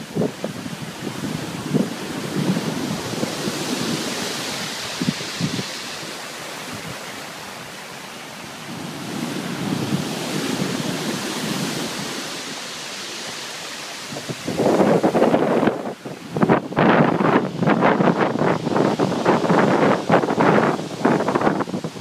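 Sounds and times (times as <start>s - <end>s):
wind buffeting microphone: 0.0s - 7.8s, 8.5s - 12.6s, 14.0s - 22.0s
waves breaking: 0.0s - 22.0s.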